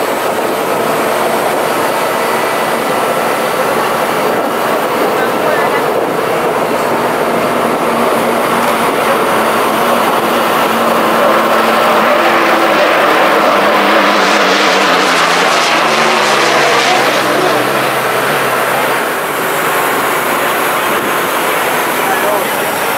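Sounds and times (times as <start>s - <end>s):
gas-turbine engine running: 0.0s - 22.9s.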